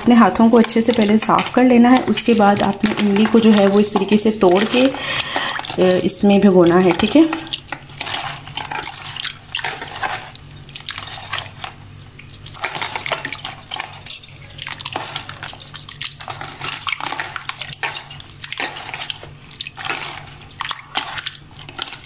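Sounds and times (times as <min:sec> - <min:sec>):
low steady hum: 0:00.0 - 0:22.0
water sloshing and squelching: 0:00.1 - 0:22.0.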